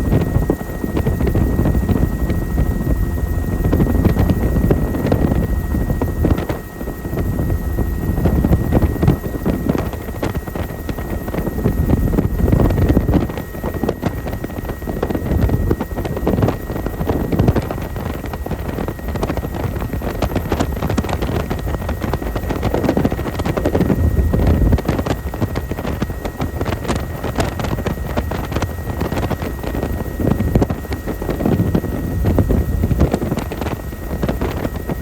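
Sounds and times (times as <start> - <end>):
high whine: 0.0 - 18.2, 22.6 - 35.0
helicopter rotor and engine: 0.0 - 35.0
wind on microphone: 0.0 - 35.0.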